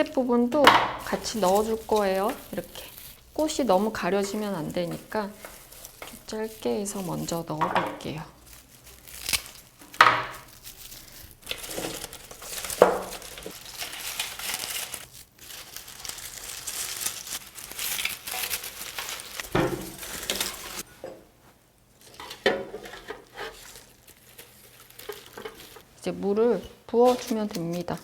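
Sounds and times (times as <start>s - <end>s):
dry reeds rustling and crackling: 0.0s - 20.9s, 22.0s - 28.0s.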